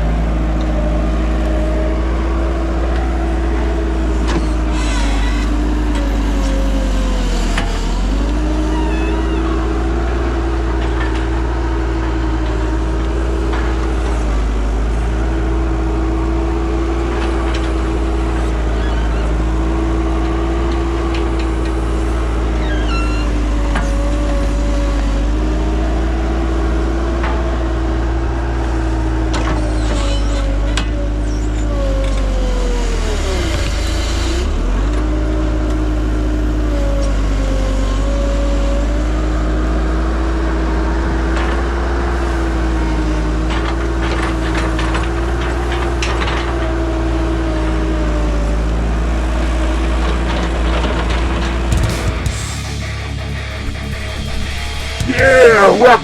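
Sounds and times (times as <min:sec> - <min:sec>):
diesel engine whining under load: 0:00.0 - 0:56.0.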